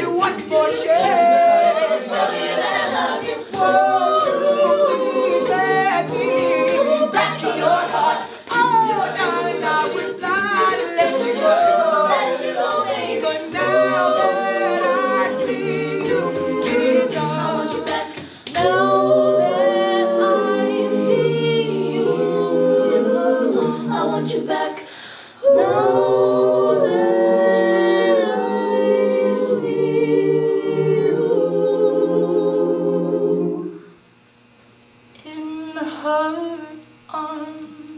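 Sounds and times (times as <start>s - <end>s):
choir singing in harmony: 0.0s - 33.9s.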